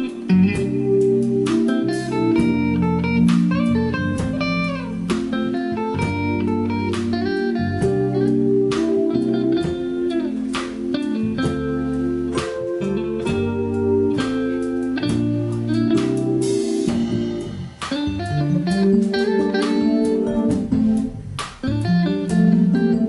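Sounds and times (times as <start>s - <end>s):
bluesy guitar music: 0.0s - 23.0s
low bass line: 0.0s - 23.0s.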